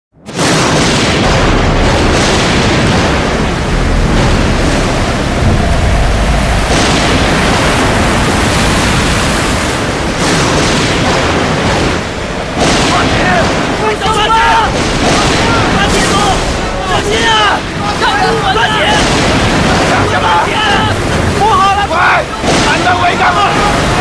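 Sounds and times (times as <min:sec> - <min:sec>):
wind: 0:00.2 - 0:24.0
heavy waves breaking: 0:00.4 - 0:24.0
deep continuous rumble: 0:01.1 - 0:24.0.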